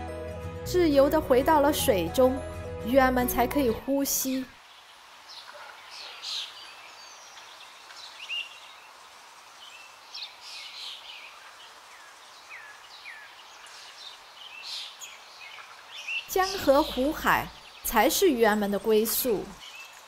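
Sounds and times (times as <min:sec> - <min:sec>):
birds chirping: 0:00.8 - 0:20.0
faint steady outdoor hiss: 0:02.9 - 0:20.0.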